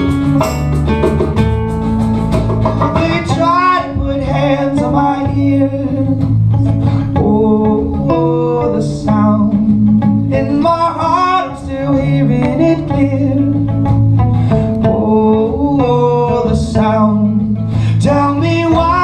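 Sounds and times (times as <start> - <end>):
acoustic guitars playing: 0.0 - 19.0
man singing: 2.8 - 19.0.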